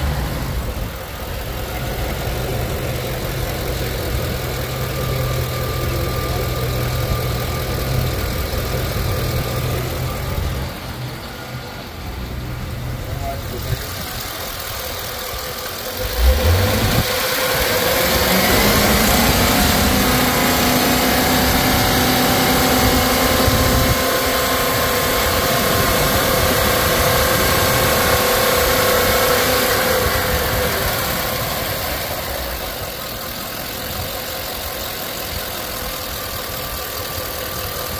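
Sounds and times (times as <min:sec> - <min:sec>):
engine revving and idling: 0:00.0 - 0:37.9.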